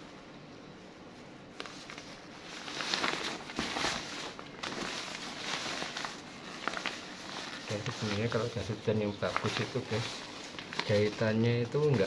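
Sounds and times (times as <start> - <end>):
waterproof fabric rustling: 1.5 - 12.0.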